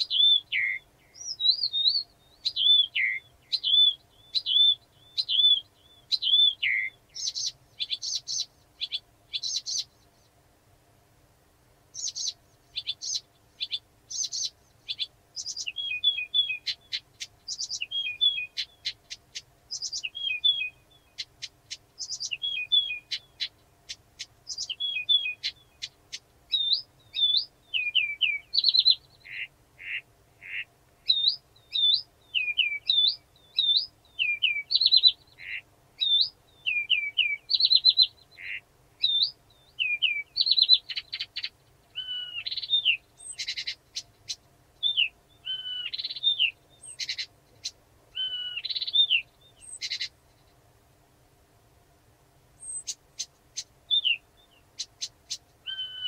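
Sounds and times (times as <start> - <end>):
warbler singing: 0.0 - 10.4, 11.9 - 51.0, 52.5 - 56.0.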